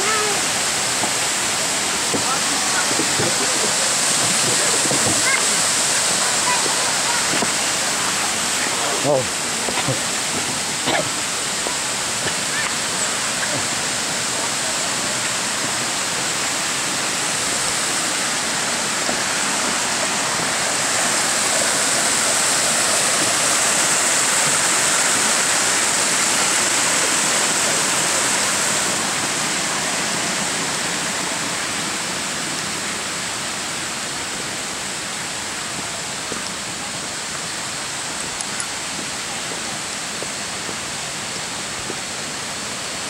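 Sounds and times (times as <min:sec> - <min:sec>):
water rushing over rocks: 0:00.0 - 0:43.0.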